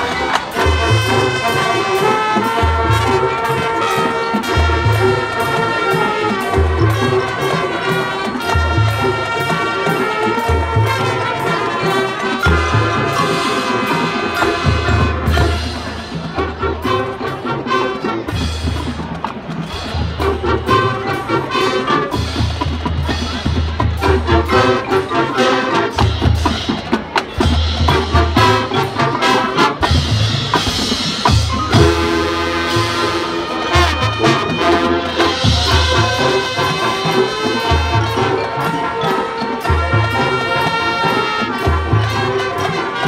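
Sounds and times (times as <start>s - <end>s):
drumline percussion: 0.0s - 43.0s
marching band brass: 0.0s - 43.0s.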